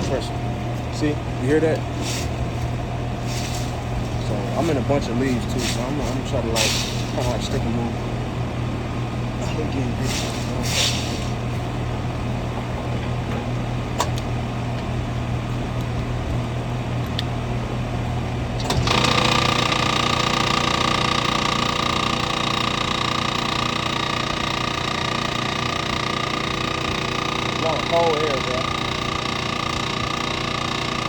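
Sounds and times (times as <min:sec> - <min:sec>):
air conditioner unit humming: 0:00.0 - 0:31.0
compressor and fan whining: 0:00.0 - 0:31.0.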